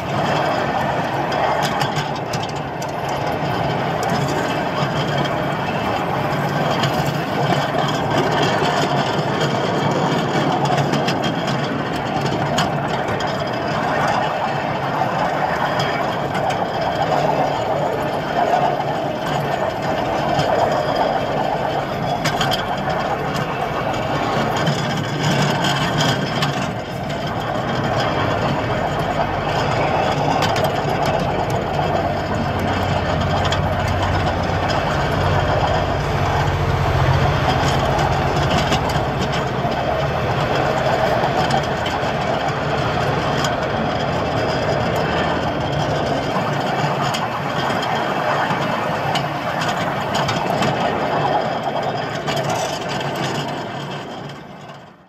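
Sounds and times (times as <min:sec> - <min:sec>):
miniature train engine drone: 0:00.0 - 0:55.0
wheels clicking on rails: 0:00.0 - 0:55.0.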